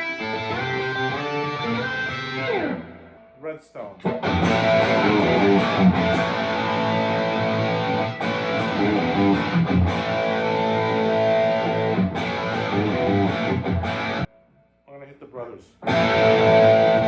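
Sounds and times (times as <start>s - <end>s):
overdriven electric guitar chords: 0.0s - 3.4s, 4.0s - 14.5s, 15.8s - 17.0s.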